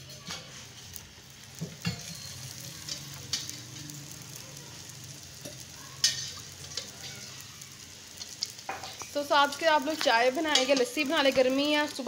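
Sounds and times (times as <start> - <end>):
flatbread sizzling on a griddle: 0.0 - 12.0.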